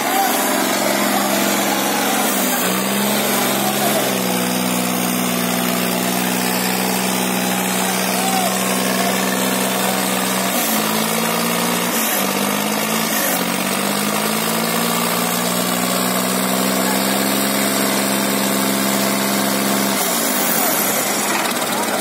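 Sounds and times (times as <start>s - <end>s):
tractor diesel engines under load: 0.0s - 22.0s.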